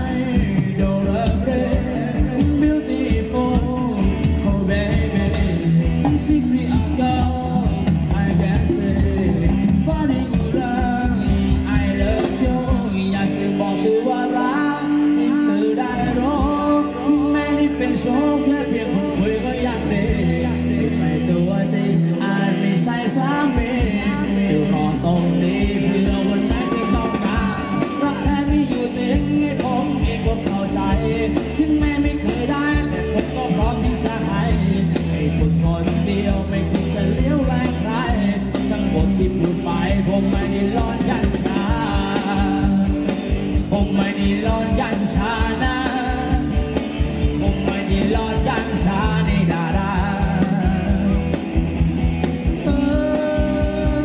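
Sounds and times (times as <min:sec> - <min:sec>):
steady drum beat: 0:00.0 - 0:13.4, 0:23.6 - 0:54.0
live band playing dance music: 0:00.0 - 0:54.0.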